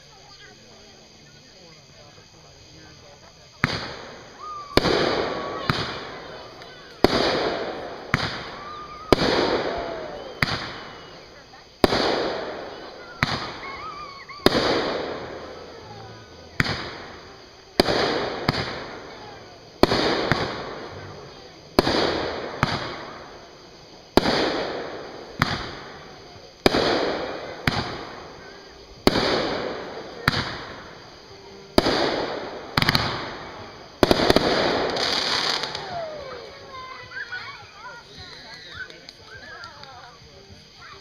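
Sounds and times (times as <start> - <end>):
fireworks bursting with echo: 0.0 - 41.0.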